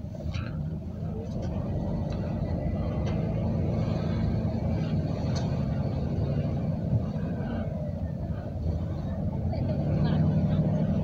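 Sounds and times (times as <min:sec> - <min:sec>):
road noise: 0:00.0 - 0:11.0
van engine hum: 0:00.0 - 0:11.0.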